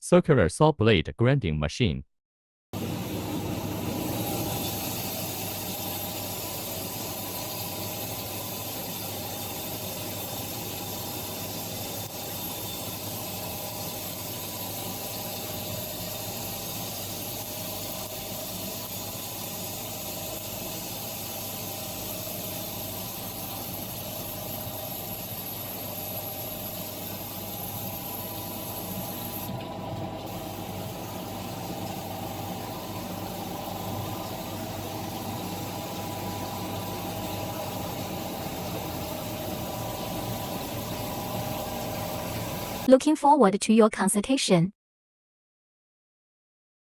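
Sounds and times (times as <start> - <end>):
machine humming: 2.8 - 42.9.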